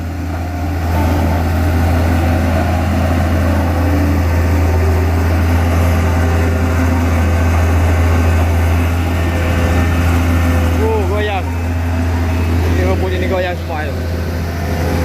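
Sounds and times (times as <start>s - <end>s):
road roller deep hum: 0.0s - 15.0s.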